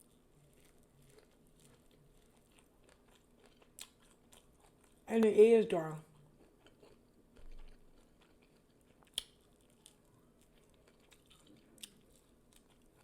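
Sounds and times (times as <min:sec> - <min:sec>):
chewing dry corn: 0:00.0 - 0:05.1, 0:06.0 - 0:13.0.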